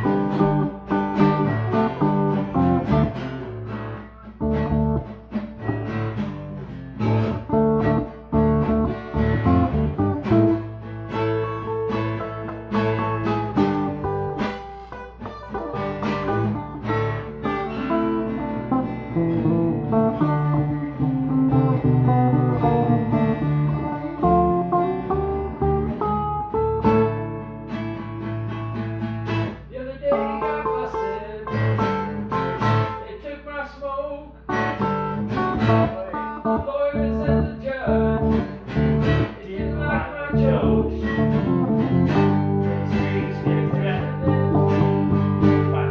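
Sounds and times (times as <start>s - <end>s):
electric guitar playing: 0.0s - 33.2s, 34.3s - 45.9s.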